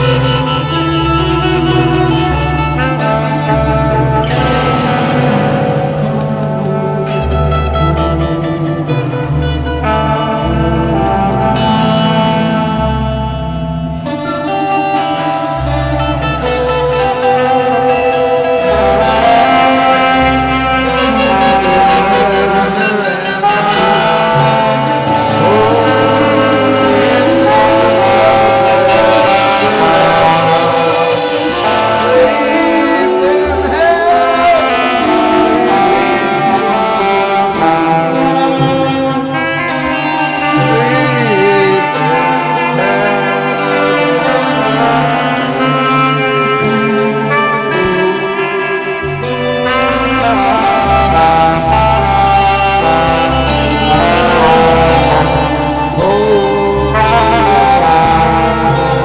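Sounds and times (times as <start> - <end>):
horns holding steady notes: 0.0 - 59.0
rock music with guitar and bass: 0.0 - 59.0.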